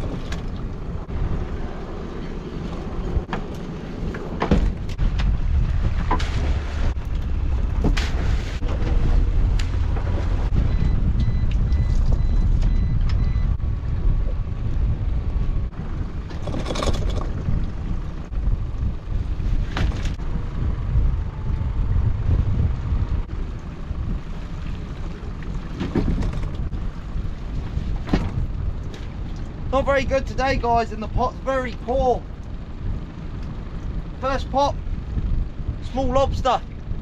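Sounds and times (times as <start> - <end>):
outboard motor running: 0.0 - 10.5, 13.8 - 35.8
wind rumble on microphone: 0.0 - 37.0.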